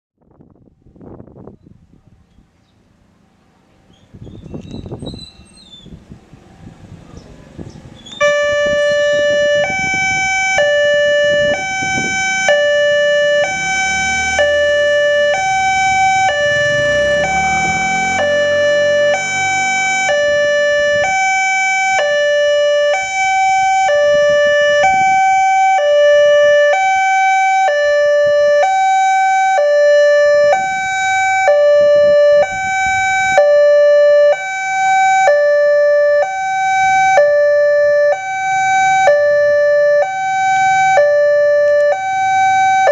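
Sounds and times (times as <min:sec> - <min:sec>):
level-crossing alarm two-note warning: 0:08.2 - 0:42.9.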